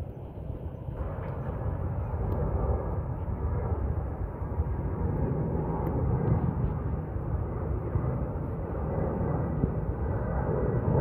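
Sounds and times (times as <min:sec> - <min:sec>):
distant jet airliner rumble: 0:00.0 - 0:11.0.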